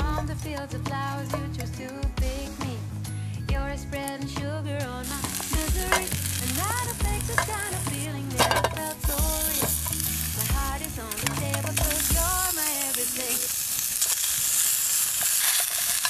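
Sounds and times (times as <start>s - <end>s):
background music with singing: 0.0s - 13.7s
sizzling over a campfire: 0.0s - 16.0s.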